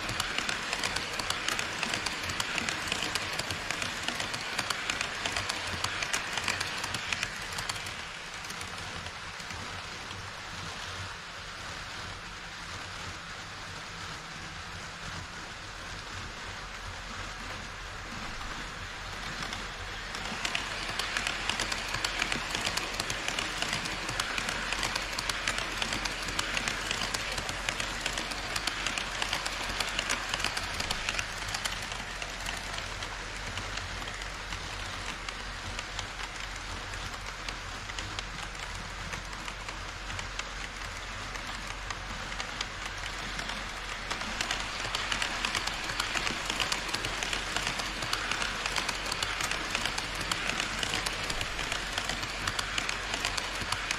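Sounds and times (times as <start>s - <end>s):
model train wheels rattling: 0.0s - 10.1s, 17.4s - 53.9s.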